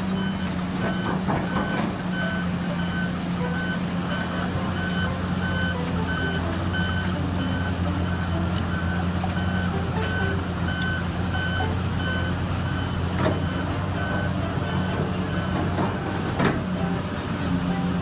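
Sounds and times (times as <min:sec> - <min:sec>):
reversing alarm beeping: 0:00.0 - 0:17.0
diesel engine running: 0:00.0 - 0:18.0.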